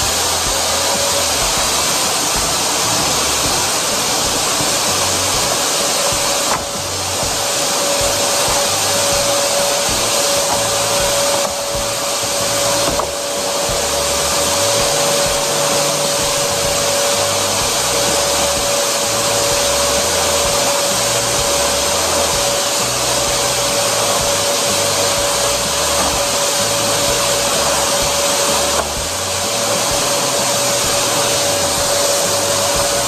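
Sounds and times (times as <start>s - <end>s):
vacuum cleaner on carpet: 0.0s - 33.0s.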